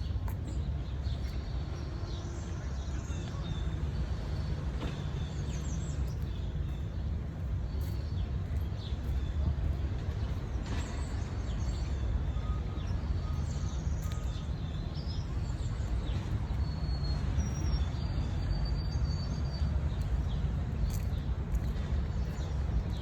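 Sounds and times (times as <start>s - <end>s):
songbirds chirping: 0.0s - 23.0s
steady low rumble: 0.0s - 23.0s.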